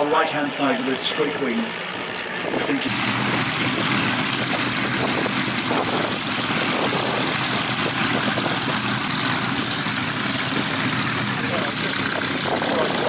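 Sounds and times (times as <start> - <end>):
biplanes droning past: 0.0 - 13.0.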